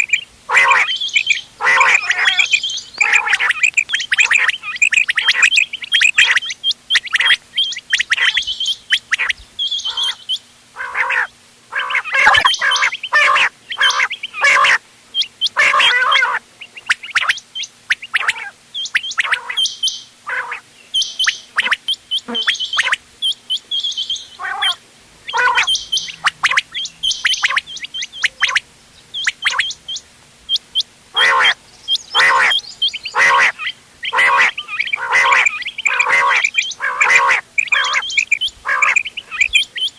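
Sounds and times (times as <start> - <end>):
quails calling: 0.0 - 39.9.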